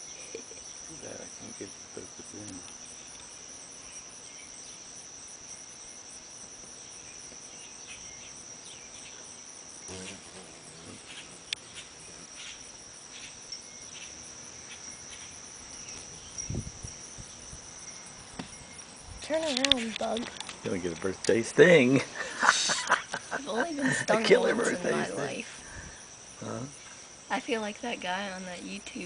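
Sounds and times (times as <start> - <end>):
high-pitched insect trill: 0.0 - 29.0.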